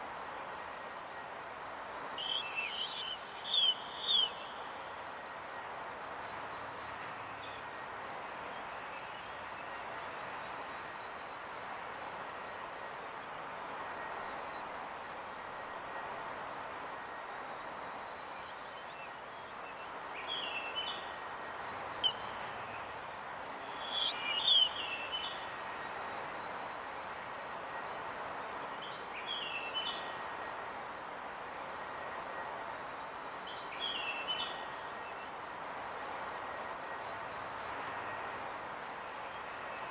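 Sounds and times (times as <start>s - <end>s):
background hiss: 0.0s - 39.9s
crickets trilling: 0.0s - 39.9s.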